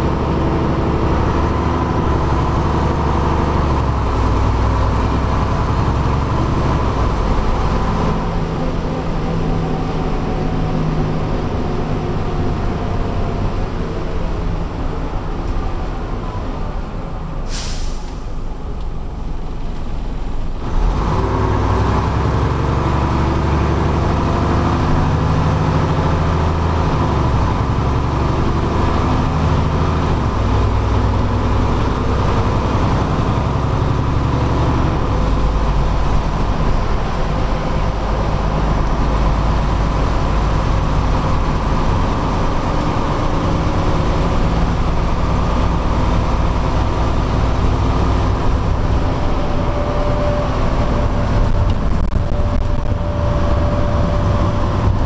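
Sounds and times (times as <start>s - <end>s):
bus diesel engine: 0.0s - 55.0s
road noise: 0.0s - 55.0s.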